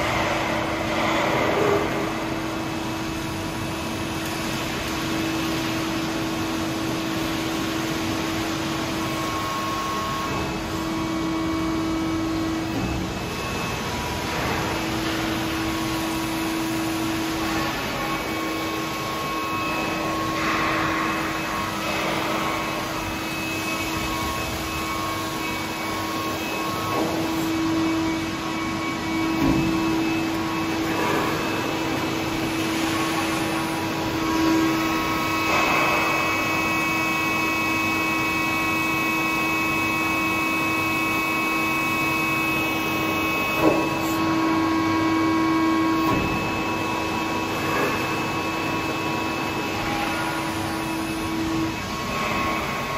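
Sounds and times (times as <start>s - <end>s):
machine hum: 0.0s - 52.9s.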